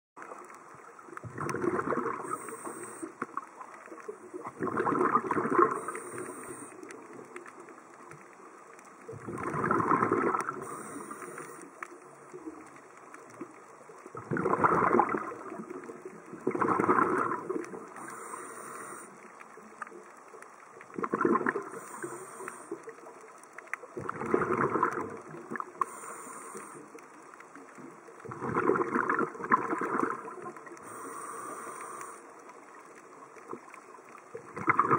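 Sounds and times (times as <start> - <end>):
underwater bubbles gurgling: 0.2 - 34.9.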